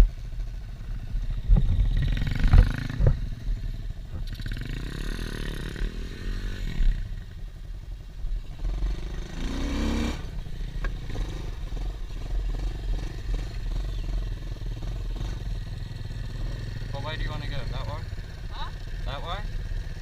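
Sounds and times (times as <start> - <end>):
pit bike engine revving: 0.8 - 7.2, 8.5 - 20.0.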